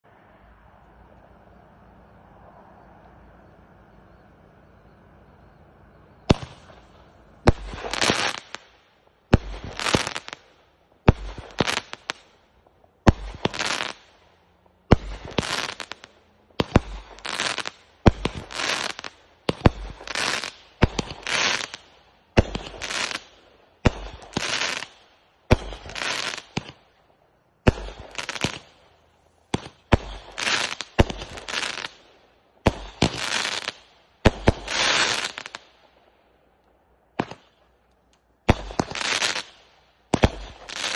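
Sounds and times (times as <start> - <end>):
firework shots launching and crackling: 6.2 - 27.0, 27.6 - 36.1, 37.1 - 40.9.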